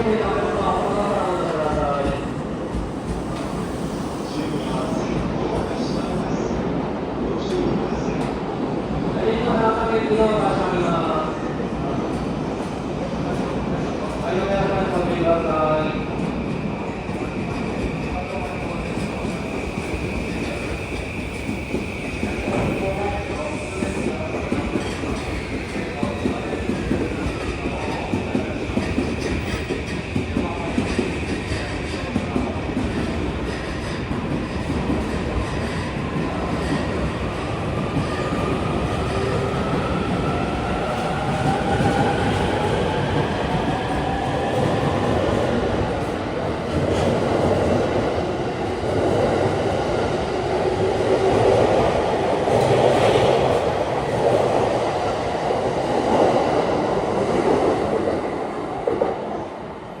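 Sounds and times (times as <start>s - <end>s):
rumble and clatter of train cars: 0.0s - 59.7s.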